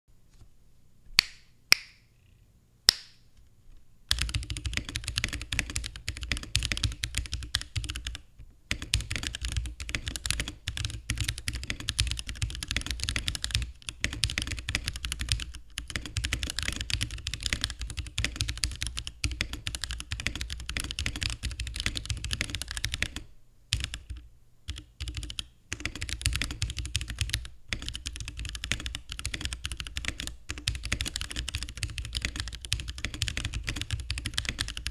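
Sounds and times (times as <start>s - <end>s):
mechanical keyboard typing: 4.1s - 34.9s.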